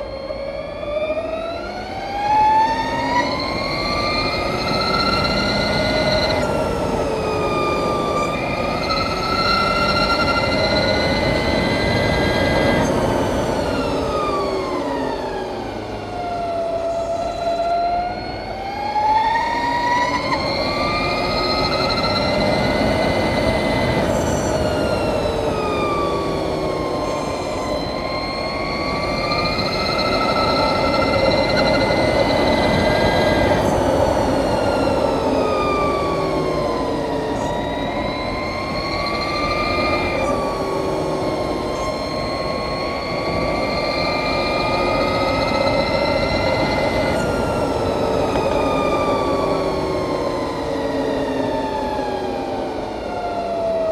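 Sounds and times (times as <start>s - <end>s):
wind and road noise: 0.0s - 53.9s.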